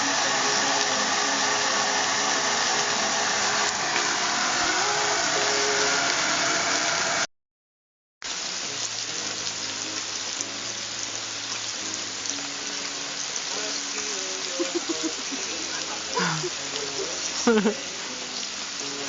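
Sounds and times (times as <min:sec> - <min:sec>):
background music: 0:00.0 - 0:07.2, 0:08.4 - 0:19.0
steady rain: 0:00.0 - 0:07.3, 0:08.2 - 0:19.0.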